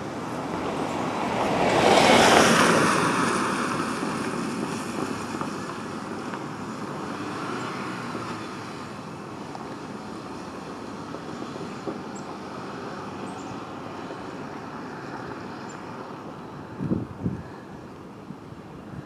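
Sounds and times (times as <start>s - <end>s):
vehicle passing by: 0.0s - 17.8s.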